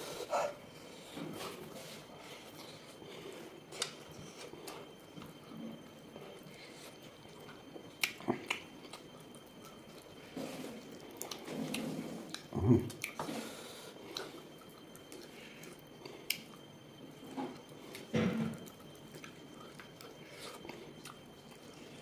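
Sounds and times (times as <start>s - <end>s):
person chewing: 0.1s - 22.0s.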